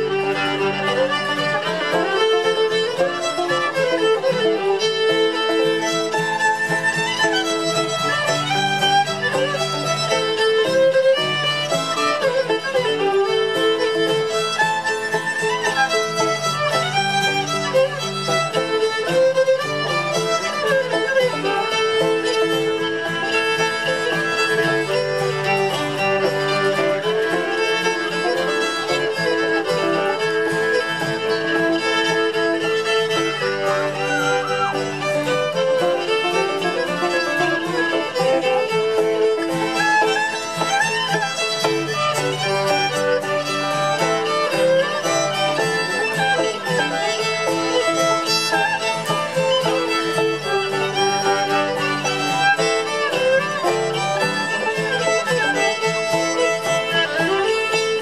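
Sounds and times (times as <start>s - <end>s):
strummed acoustic guitar: 0.0s - 58.0s
two fiddles playing: 0.0s - 58.0s.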